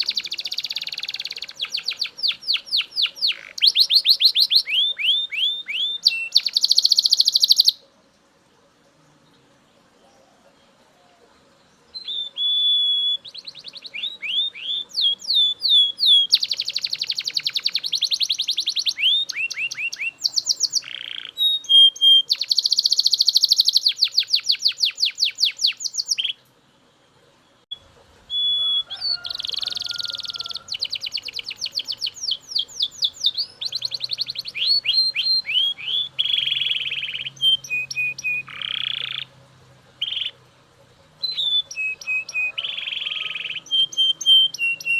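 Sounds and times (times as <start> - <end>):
canary singing trills: 0.0 - 8.0, 9.9 - 26.5, 27.4 - 44.9.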